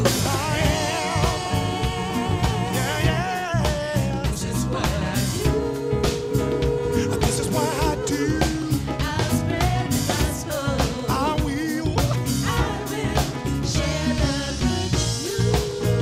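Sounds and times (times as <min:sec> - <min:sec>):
drum kit: 0:00.0 - 0:16.0
electric bass guitar: 0:00.0 - 0:16.0
grand piano: 0:00.0 - 0:16.0
vocalists singing held notes: 0:00.0 - 0:16.0.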